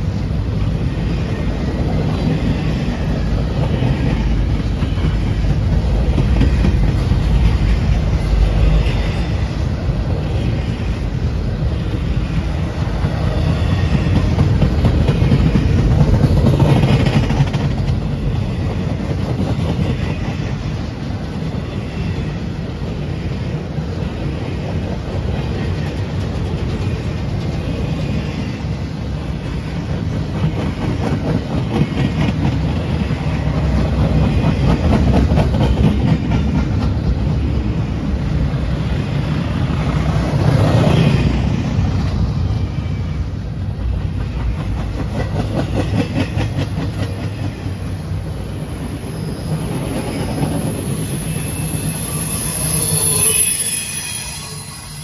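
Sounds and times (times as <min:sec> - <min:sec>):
train rumbling past: 0:00.0 - 0:55.0.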